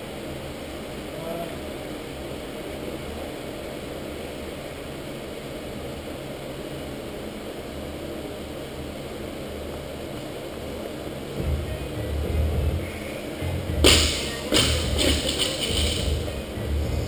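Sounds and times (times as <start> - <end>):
ventilation fans humming: 0.0 - 17.0.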